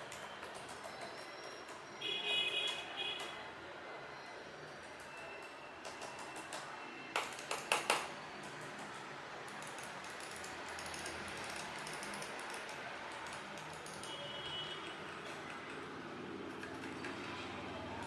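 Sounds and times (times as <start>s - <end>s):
background noise: 0.0s - 18.0s.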